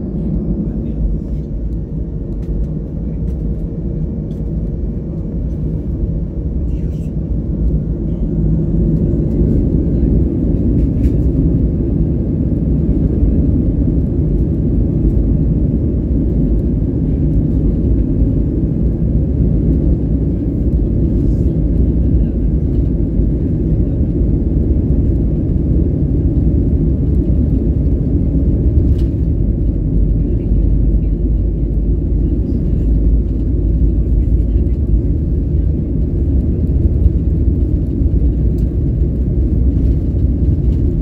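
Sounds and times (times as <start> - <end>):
jet engines at low power: 0.0 - 41.0.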